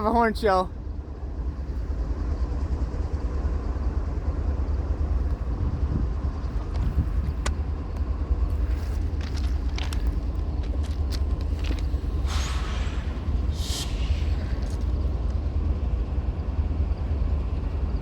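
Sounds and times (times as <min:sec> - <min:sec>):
passenger train passing: 0:00.0 - 0:18.0.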